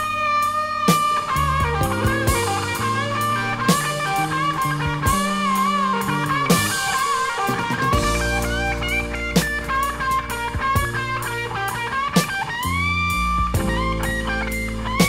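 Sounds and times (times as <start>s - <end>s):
blues-rock music from vinyl: 0.0s - 15.0s
electric guitar lead: 0.0s - 15.0s.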